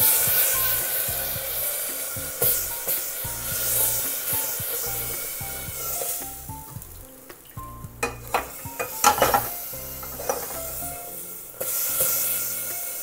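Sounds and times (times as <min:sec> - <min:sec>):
metal cooker clanking: 0:00.0 - 0:06.8, 0:07.4 - 0:13.0
water sizzling on hot metal: 0:00.0 - 0:13.0.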